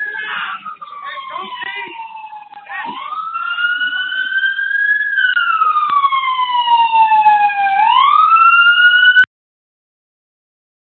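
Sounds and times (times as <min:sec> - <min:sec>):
police siren wailing: 0:00.0 - 0:09.3.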